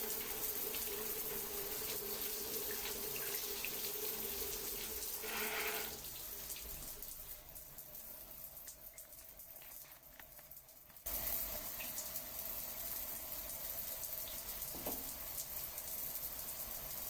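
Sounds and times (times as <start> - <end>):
faint drips: 0.0 - 17.0.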